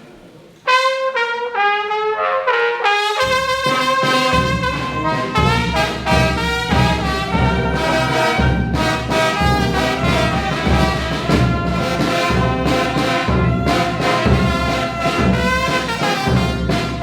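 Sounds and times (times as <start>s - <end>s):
brass band playing: 0.6s - 17.0s.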